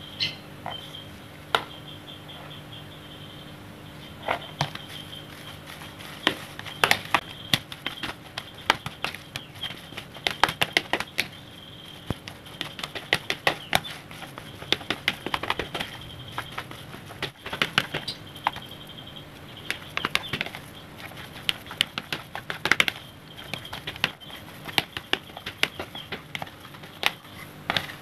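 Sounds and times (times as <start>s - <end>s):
spatula mashing bait in plastic bowl: 4.4s - 18.8s, 19.6s - 28.0s.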